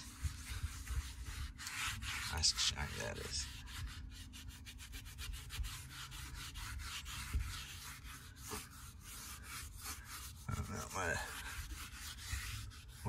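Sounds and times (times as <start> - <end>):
cloth rubbing on boat hull: 0.0 - 13.0.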